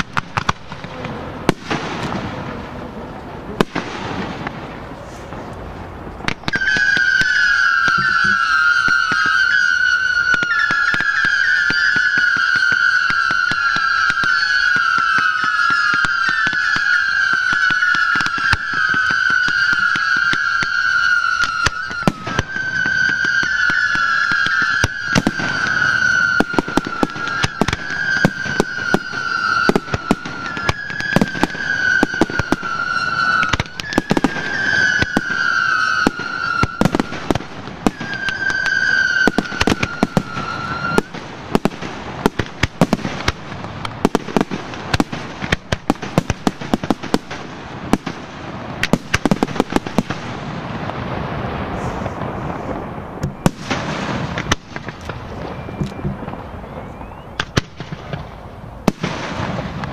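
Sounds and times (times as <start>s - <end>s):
firework bangs and shell bursts: 0.0s - 5.5s, 6.2s - 59.9s
whistling fireworks: 0.0s - 59.9s.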